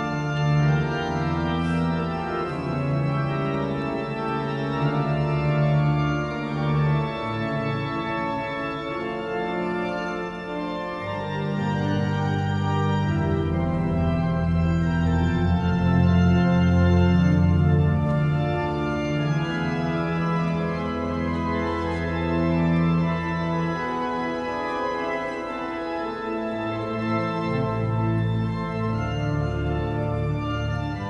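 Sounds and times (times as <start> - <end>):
church organ playing: 0.0 - 31.0.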